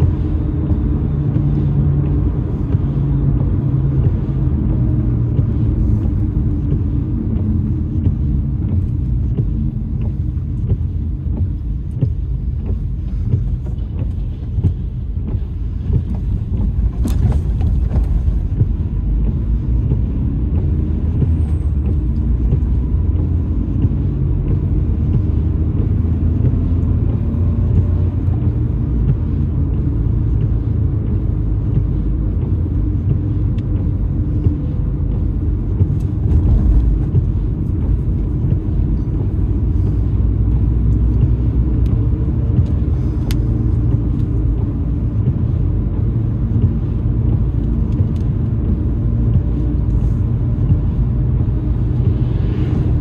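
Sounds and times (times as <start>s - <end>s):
car driving on wet road: 0.0s - 53.0s.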